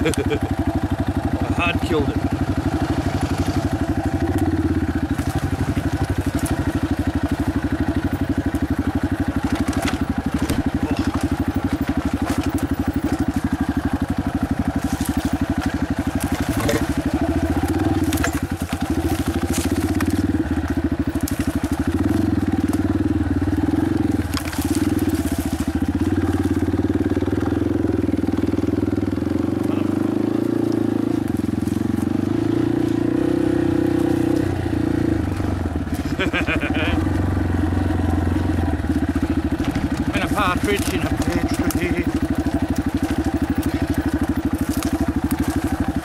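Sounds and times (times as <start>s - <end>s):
dirt bike engine running: 0.0s - 46.0s
gravel crunching under tyres: 0.0s - 46.0s.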